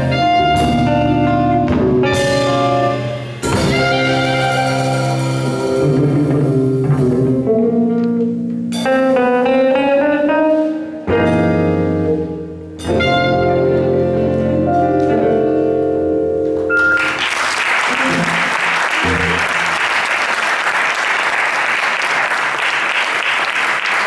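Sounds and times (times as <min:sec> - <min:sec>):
gypsy jazz band chords: 0:00.0 - 0:20.1.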